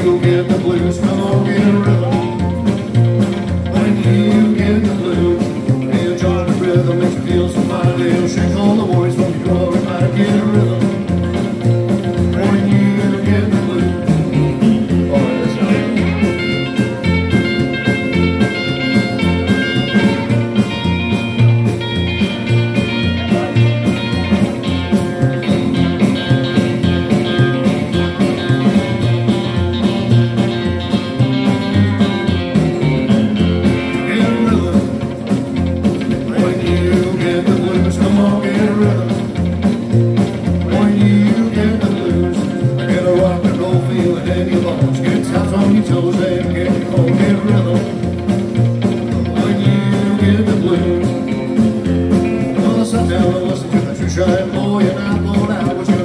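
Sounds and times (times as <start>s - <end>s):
electric guitar lead: 0.0s - 56.0s
rockabilly band playing: 0.0s - 56.0s.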